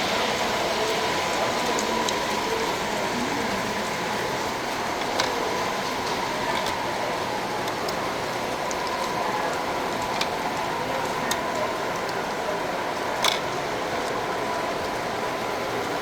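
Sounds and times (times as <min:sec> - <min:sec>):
model trains whirring rumble: 0:00.0 - 0:16.0.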